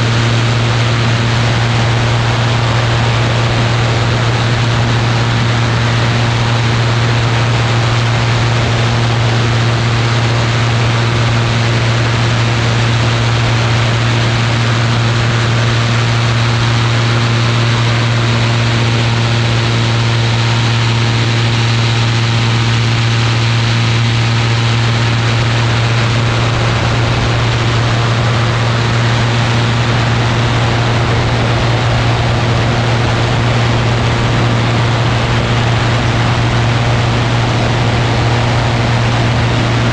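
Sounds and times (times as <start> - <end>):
ultralight aircraft engine droning: 0.0 - 39.9
wind noise: 0.0 - 39.9.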